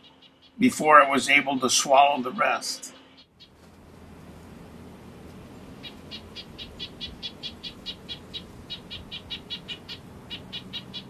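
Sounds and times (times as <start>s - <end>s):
small bird calling: 0.0s - 3.6s, 5.7s - 11.0s
low background rumble: 0.0s - 11.0s.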